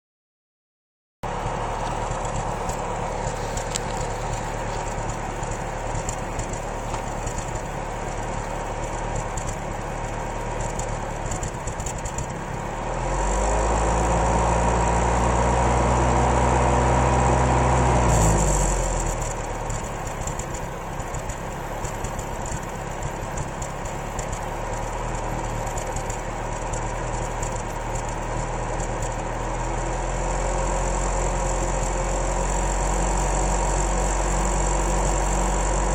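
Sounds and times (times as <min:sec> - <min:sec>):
engine idling with misfire: 0:01.2 - 0:35.9.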